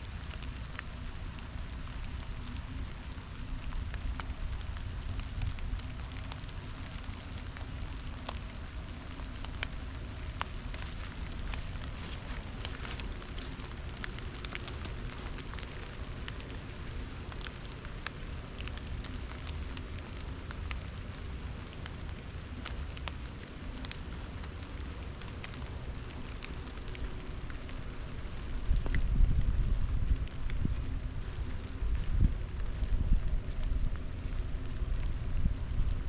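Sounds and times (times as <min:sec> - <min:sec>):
rain dripping on leaves: 0:00.0 - 0:36.0.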